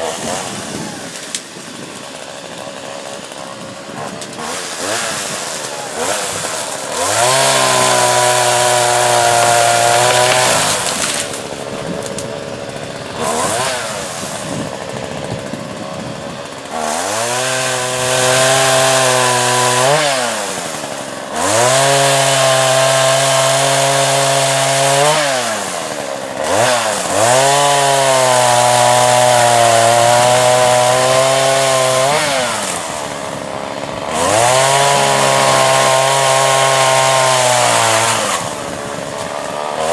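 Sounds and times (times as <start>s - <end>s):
two-stroke chainsaw running hard: 0.0s - 39.9s.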